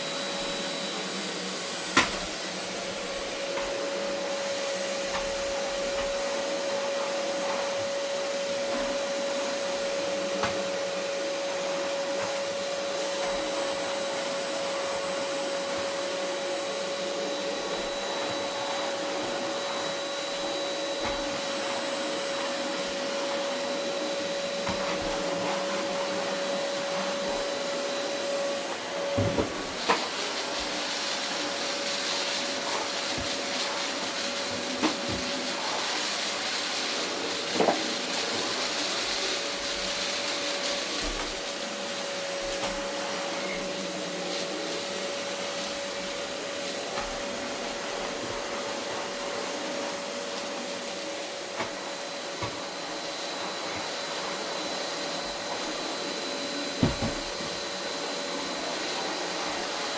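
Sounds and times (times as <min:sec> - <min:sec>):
vacuum cleaner running over carpet: 0:00.0 - 0:59.9.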